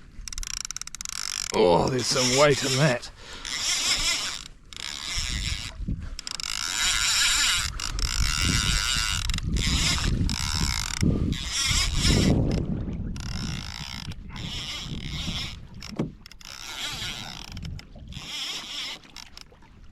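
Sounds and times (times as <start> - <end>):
fishing reel drag buzzing: 0.0 - 19.7.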